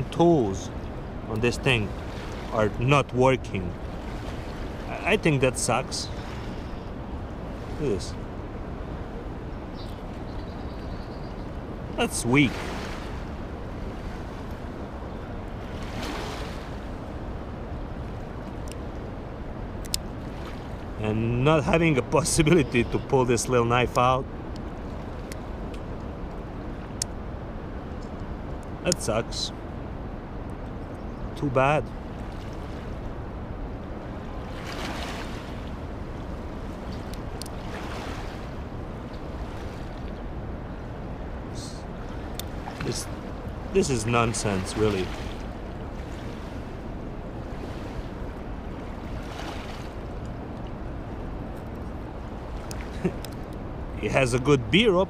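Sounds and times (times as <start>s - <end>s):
rushing water: 0.0s - 10.3s, 11.4s - 55.0s
surf: 0.0s - 10.8s, 11.4s - 27.8s, 28.4s - 55.0s
wind: 0.0s - 55.0s.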